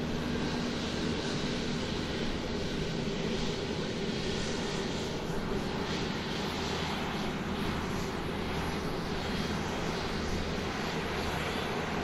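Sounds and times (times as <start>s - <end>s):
airplane engine noise: 0.0s - 12.0s.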